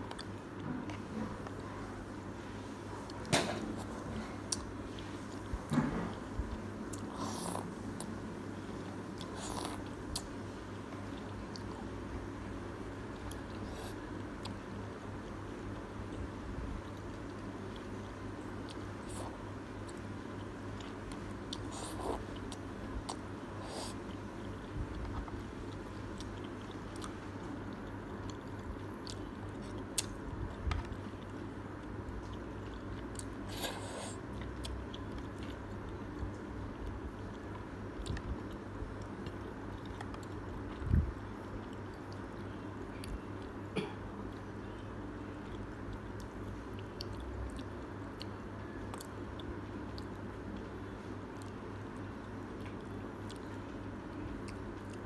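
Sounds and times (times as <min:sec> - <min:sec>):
person chewing noodles: 0:03.0 - 0:12.2, 0:12.8 - 0:15.4, 0:16.0 - 0:43.6, 0:44.2 - 0:55.0.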